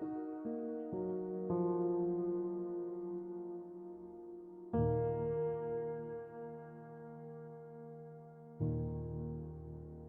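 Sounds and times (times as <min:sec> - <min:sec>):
slow sad piano chord: 0:00.0 - 0:10.0.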